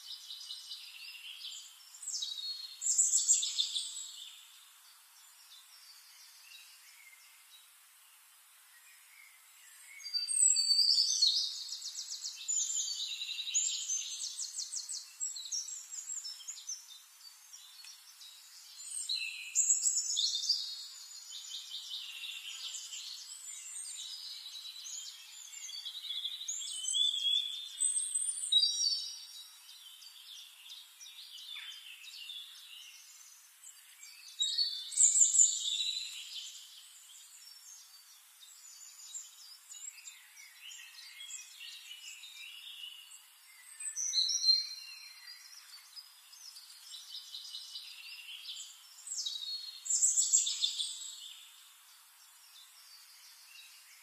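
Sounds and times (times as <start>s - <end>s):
birds singing chirps and trills: 0.0s - 54.0s.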